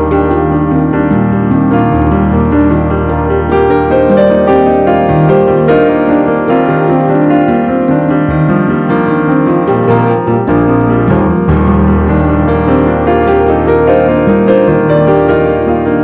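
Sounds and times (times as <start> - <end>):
instrumental piano piece: 0.0 - 16.0.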